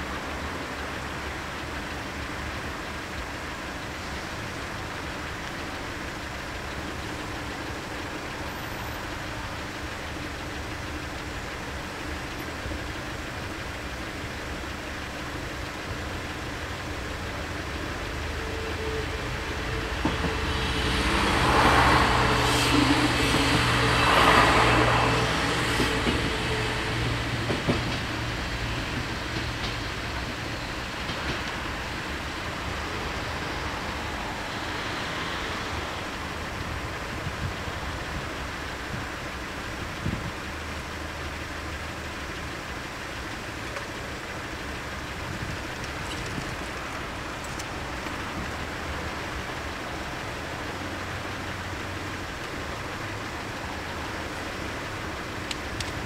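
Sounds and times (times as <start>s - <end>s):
passenger train passing: 0.0s - 56.0s.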